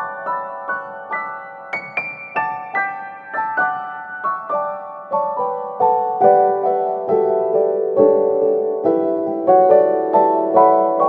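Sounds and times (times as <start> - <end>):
piano notes: 0.0 - 11.0.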